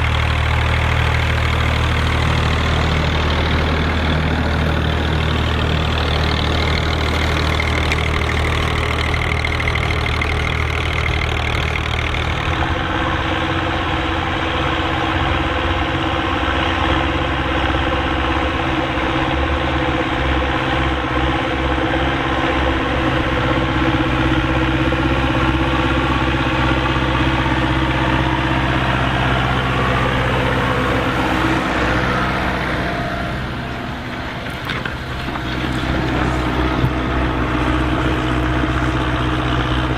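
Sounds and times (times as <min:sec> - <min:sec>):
tractor engine under load: 0:00.0 - 0:39.9.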